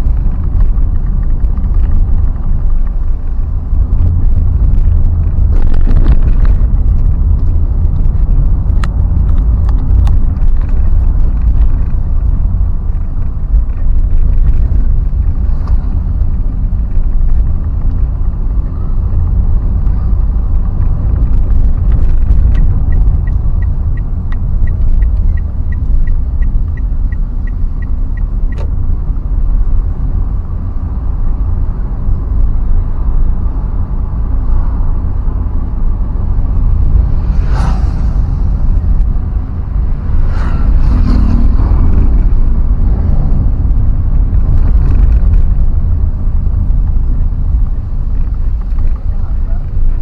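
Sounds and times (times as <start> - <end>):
vehicle road rumble: 0.0 - 50.0.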